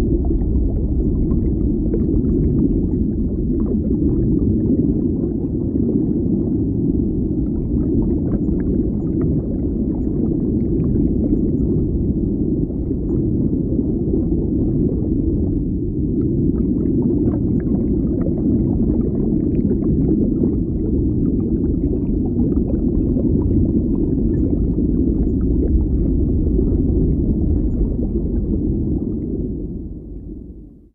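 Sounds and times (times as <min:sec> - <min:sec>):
muffled underwater rumble: 0:00.0 - 0:30.9.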